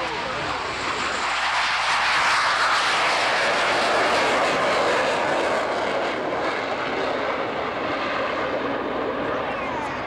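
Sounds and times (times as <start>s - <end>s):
jet aircraft roar: 0.0s - 10.0s.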